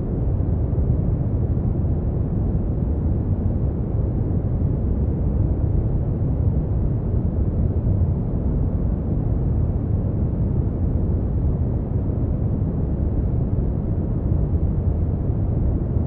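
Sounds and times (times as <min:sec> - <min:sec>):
deep rumbling brown noise: 0:00.0 - 0:16.0.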